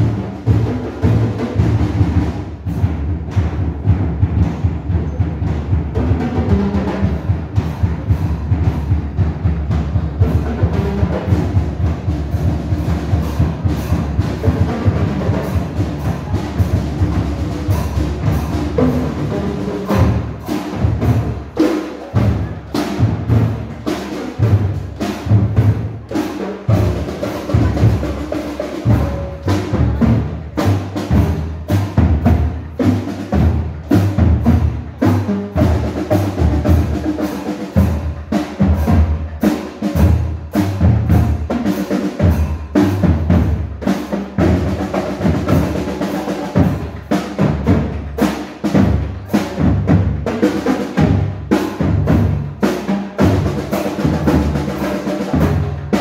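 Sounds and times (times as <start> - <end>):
drums beating a steady rhythm: 0.0 - 56.0
marching band playing: 0.0 - 56.0.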